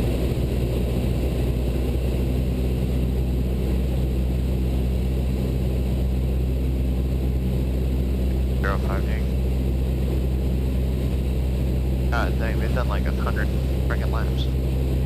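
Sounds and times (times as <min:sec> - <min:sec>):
airplane engine drone in cabin: 0:00.0 - 0:15.0.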